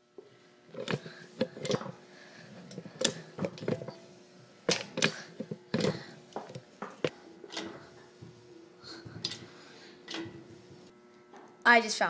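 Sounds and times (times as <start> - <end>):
hydraulic pipe bender clicking: 0.2 - 10.9.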